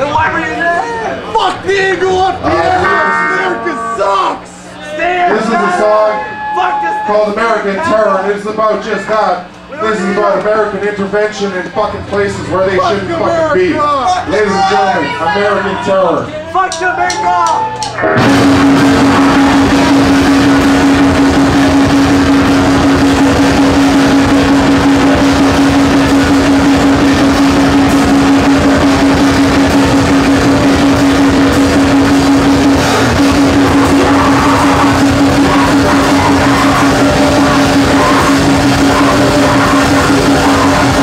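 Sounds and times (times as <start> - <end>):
grindcore band playing: 0.0 - 6.2, 10.7 - 16.2, 17.8 - 41.0.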